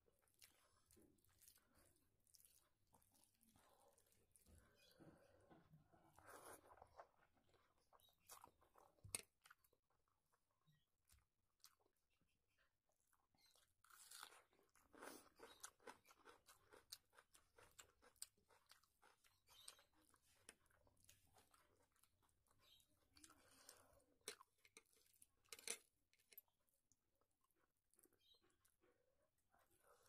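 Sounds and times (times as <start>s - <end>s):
faint wet chewing: 0.0s - 30.0s.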